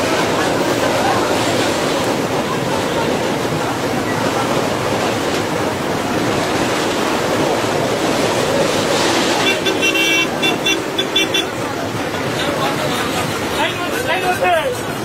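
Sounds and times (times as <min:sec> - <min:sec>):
sea surf breaking: 0:00.0 - 0:15.0
train crossing bridge: 0:00.0 - 0:15.0.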